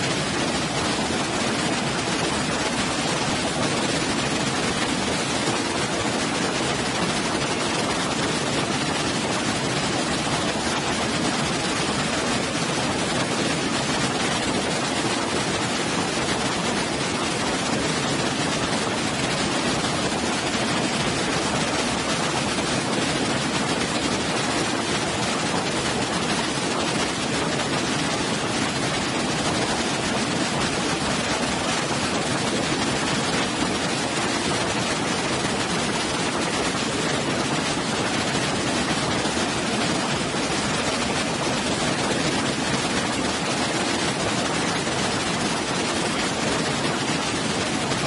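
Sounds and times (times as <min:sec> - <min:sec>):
waterfall rushing into pool: 0:00.0 - 0:48.0.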